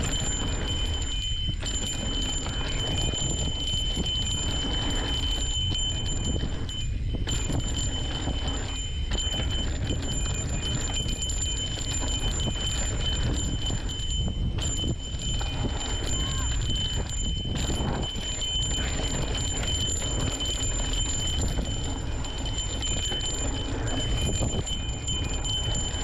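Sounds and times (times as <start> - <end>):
bike tyres rumbling on dirt: 0.0 - 26.0
wind buffeting microphone: 0.0 - 26.0.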